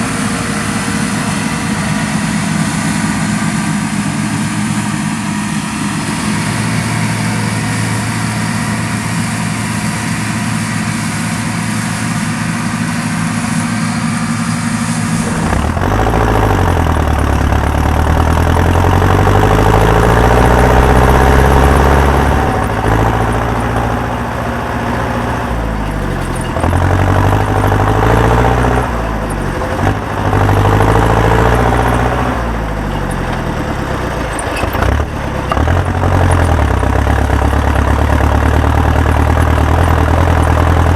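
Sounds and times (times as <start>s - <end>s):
harvester engine running: 0.0s - 40.9s.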